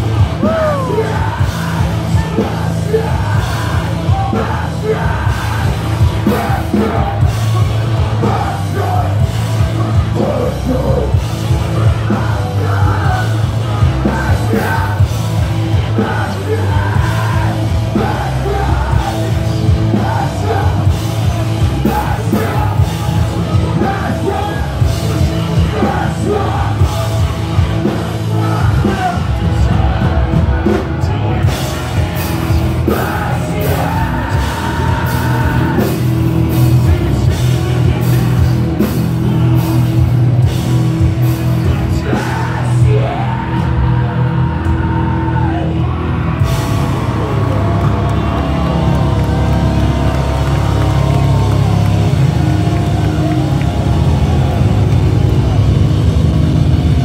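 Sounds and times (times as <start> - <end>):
shouted vocals: 0.0 - 40.5, 41.1 - 57.0
metalcore band playing live: 0.0 - 57.0.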